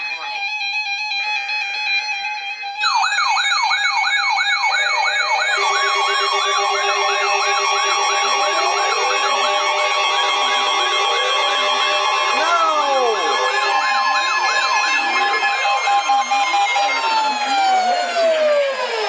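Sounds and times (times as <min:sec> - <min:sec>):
lower wailing alarms: 0:02.8 - 0:19.0
wailing siren: 0:02.8 - 0:19.0.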